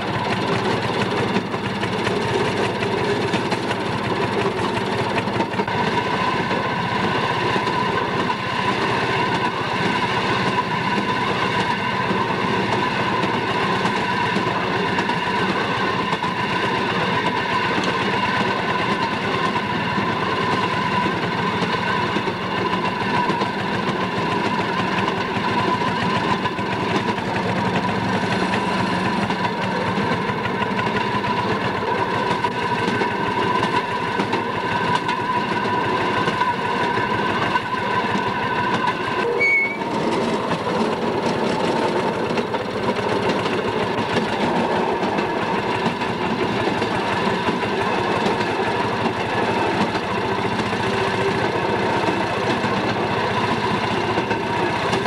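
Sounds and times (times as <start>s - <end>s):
rail motorcar running on track: 0.0s - 55.0s.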